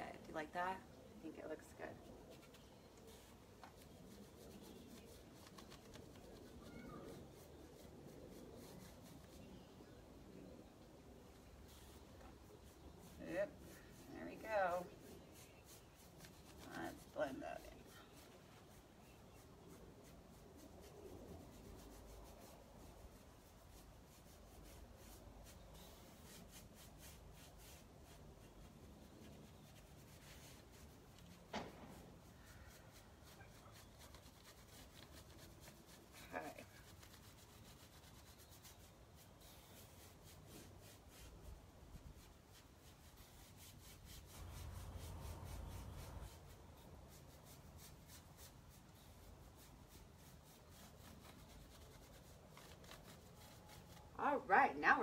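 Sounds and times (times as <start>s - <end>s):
paintbrush scrubbing on wood: 1.3s - 10.4s, 11.3s - 55.0s.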